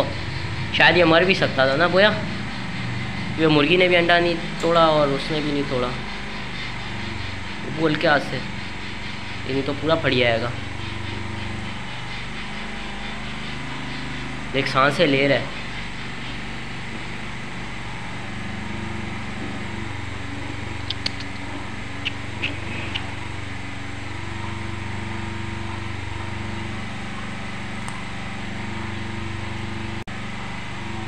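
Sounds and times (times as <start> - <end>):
machine motor hum: 0.0 - 31.0.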